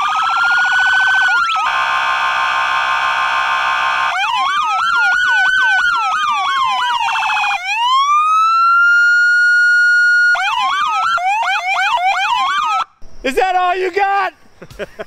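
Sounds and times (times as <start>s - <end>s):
police siren yelp and wail: 0.0s - 12.9s.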